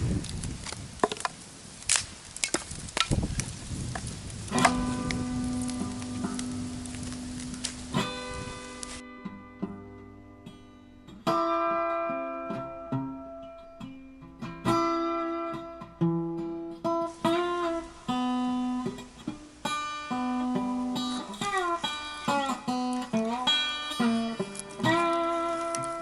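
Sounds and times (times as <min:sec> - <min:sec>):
plucked guitar melody: 0:04.5 - 0:26.0.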